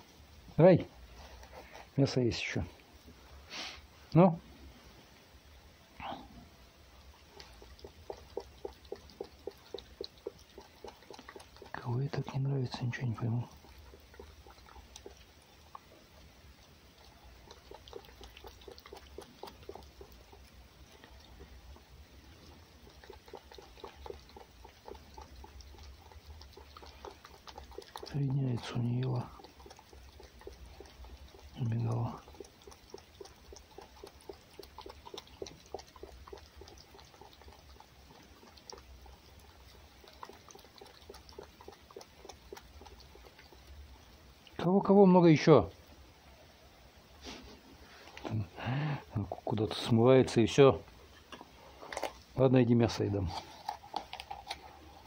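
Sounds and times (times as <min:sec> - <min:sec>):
fox licking and chewing: 0:00.0 - 0:03.4, 0:06.1 - 0:49.9, 0:50.5 - 0:55.0.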